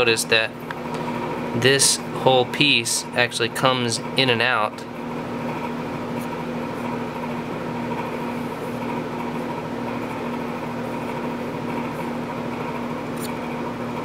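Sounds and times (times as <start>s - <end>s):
machine hum with whine: 0.0s - 14.0s.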